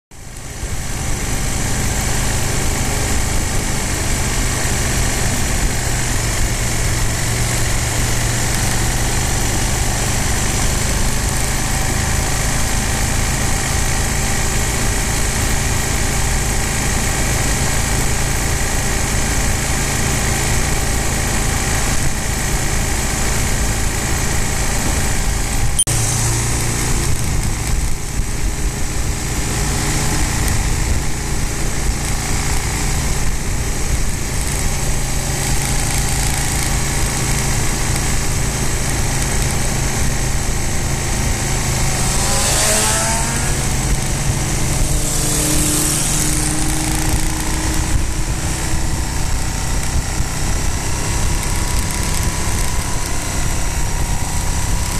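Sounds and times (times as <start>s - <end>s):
motorcycle engine running: 0.1s - 54.9s.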